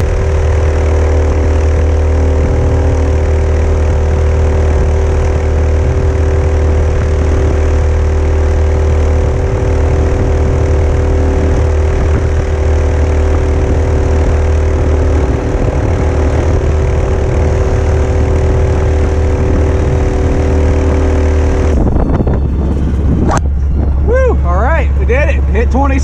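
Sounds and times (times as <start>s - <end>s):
small gasoline engine droning: 0.0s - 26.0s.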